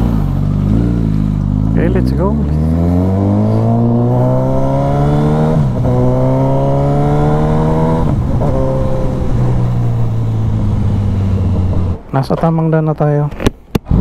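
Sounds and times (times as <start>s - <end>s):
motorcycle engine accelerating: 0.0s - 12.1s.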